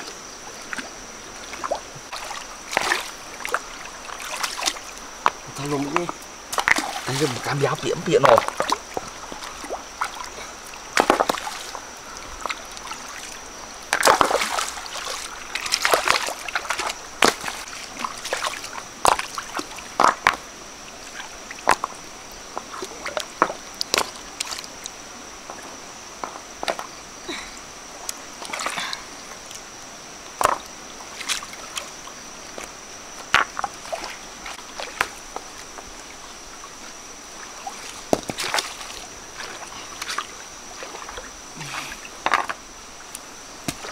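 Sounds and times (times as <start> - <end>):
water sloshing and splashing: 0.0 - 43.9.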